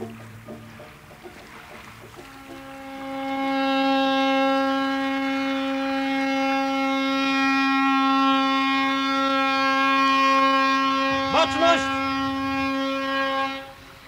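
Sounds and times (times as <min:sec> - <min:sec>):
ship's horn blast: 0:02.2 - 0:14.0.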